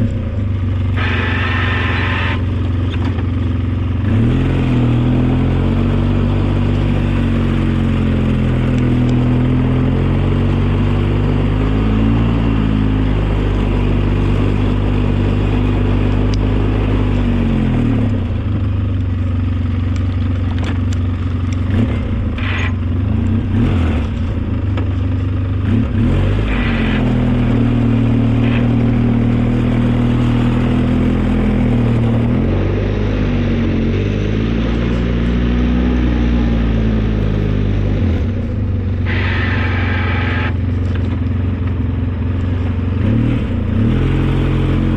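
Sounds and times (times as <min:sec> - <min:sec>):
snowplow engine running under load: 0:00.0 - 0:44.9.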